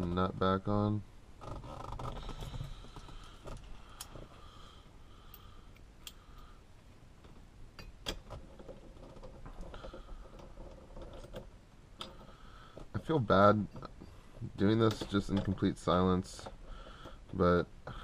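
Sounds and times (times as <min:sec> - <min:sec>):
faint background hum: 0:00.0 - 0:18.0.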